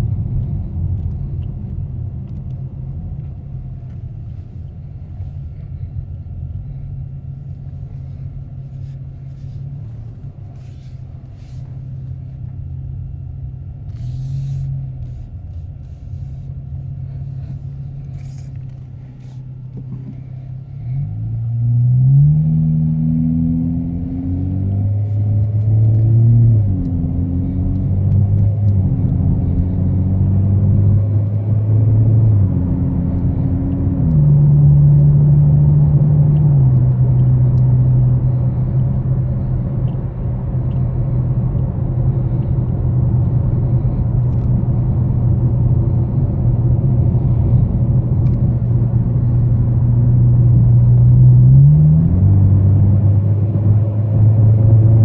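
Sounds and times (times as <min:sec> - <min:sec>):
car exhaust drone: 0:00.0 - 0:55.0.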